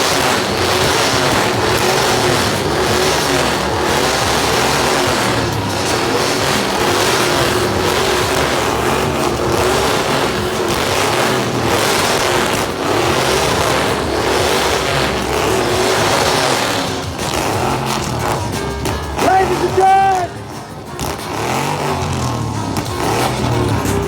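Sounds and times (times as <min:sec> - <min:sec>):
car engine at high revs: 0:00.0 - 0:24.0
spinning tyres hissing: 0:00.0 - 0:24.0.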